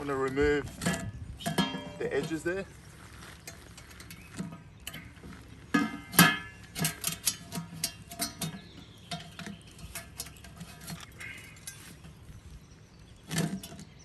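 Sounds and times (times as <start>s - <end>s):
metal cookware clanking: 0.0s - 2.6s, 3.8s - 12.2s, 13.2s - 14.0s.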